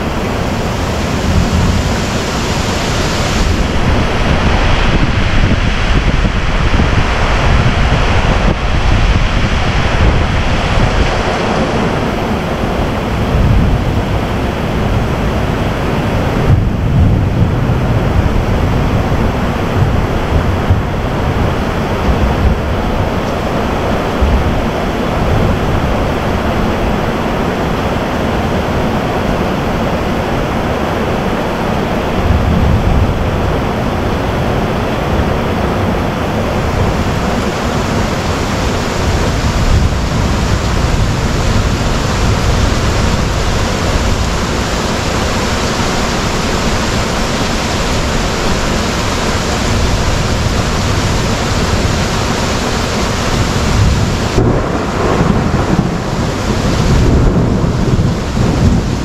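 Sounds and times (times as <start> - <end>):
heavy rain hissing: 0.0 - 59.0
thunder rumbling: 0.0 - 59.0.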